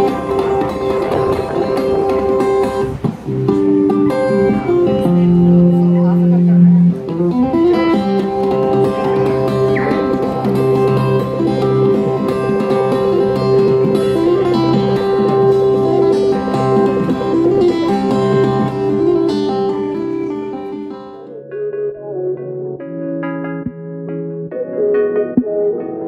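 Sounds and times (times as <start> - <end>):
acoustic guitar plucked notes: 0.0 - 26.0.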